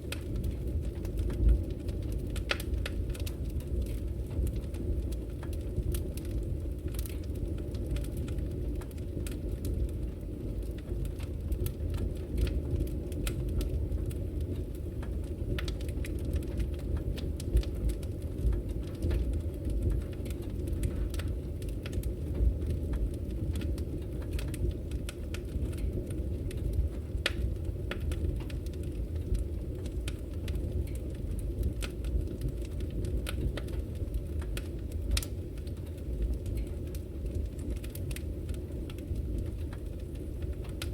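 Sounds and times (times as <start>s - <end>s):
low rumble of fire: 0.0s - 40.9s
wood fire crackling: 0.0s - 40.9s.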